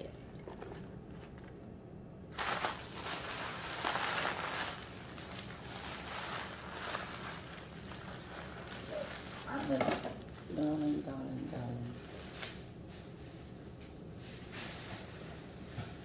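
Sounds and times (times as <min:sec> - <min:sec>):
low steady hum: 0:00.0 - 0:16.0
tissue paper rustling and crinkling: 0:02.3 - 0:16.0.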